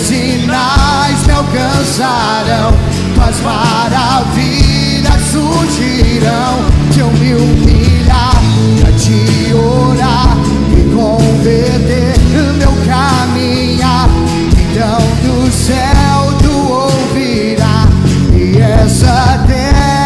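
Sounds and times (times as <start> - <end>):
person singing: 0.0 - 20.0
rock band playing: 0.0 - 20.0.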